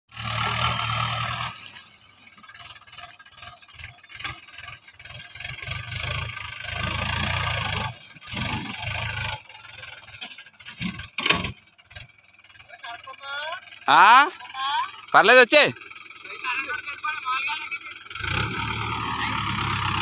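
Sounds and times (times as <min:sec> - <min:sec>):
tractor diesel engine under load: 0:00.1 - 0:20.0.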